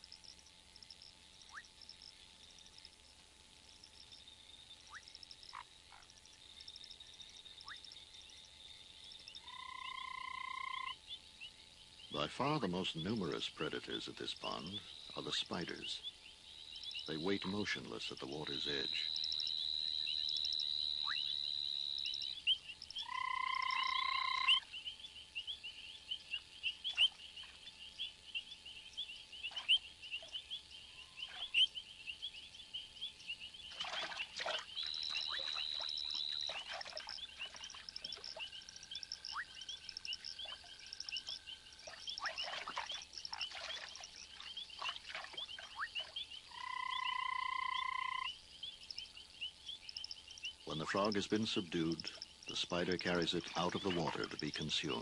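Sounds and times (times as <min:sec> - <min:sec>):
frogs clicking calls: 0:00.0 - 0:55.0
long high-pitched frog notes: 0:09.2 - 0:11.2, 0:12.1 - 0:55.0.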